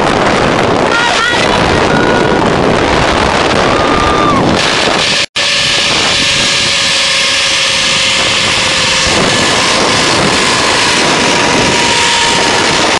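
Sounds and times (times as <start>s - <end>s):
wind rushing over microphone: 0.0s - 12.9s.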